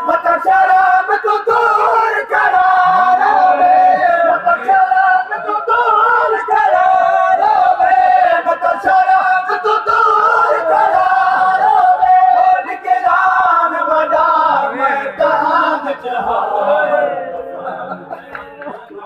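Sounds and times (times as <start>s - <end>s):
lead reciter chanting: 0.0s - 18.3s
men chanting in unison: 0.0s - 18.3s.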